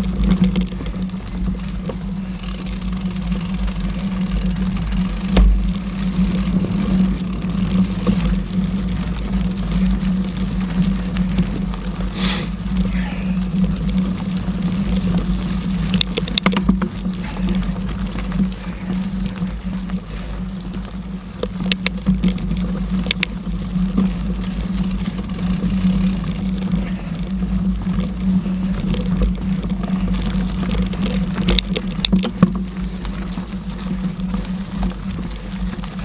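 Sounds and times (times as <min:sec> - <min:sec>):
bike tyres rumbling on dirt: 0:00.0 - 0:36.0.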